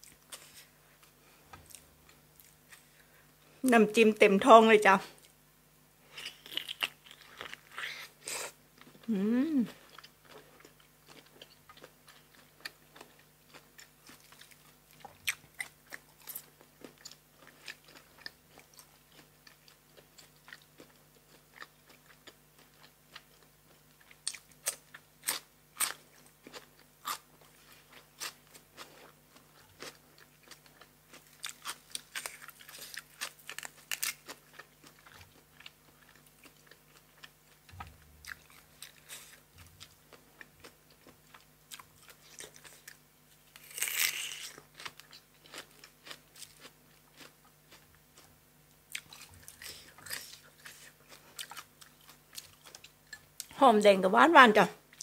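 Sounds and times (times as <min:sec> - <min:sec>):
person chewing crunchy food: 0:06.1 - 0:53.5.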